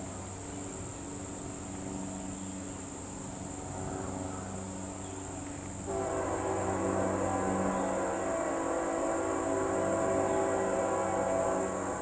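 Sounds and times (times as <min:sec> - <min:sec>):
crickets chirping: 0:00.0 - 0:12.0
low steady hum: 0:00.0 - 0:12.0.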